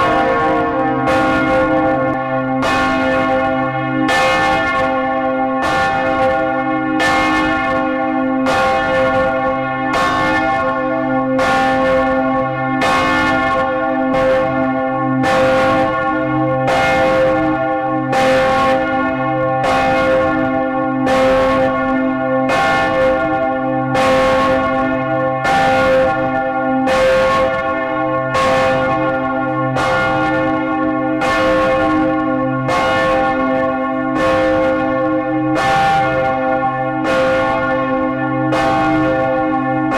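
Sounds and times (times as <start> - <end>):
church bells tolling: 0.0 - 39.9.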